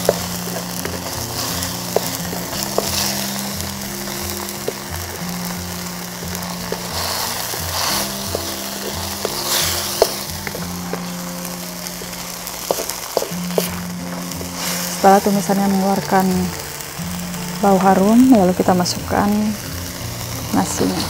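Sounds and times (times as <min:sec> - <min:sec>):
background music with bass line: 0:00.0 - 0:21.0
food frying in oil: 0:00.0 - 0:21.0.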